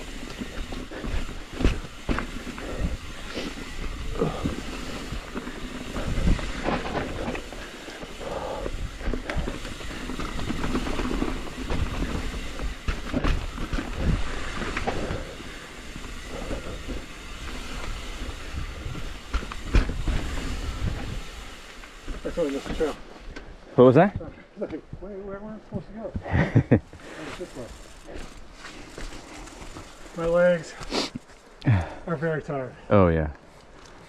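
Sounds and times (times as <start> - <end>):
bike rattling over bumps: 0.0 - 23.6, 25.0 - 31.6
bike tyres on dirt trail: 0.0 - 34.0.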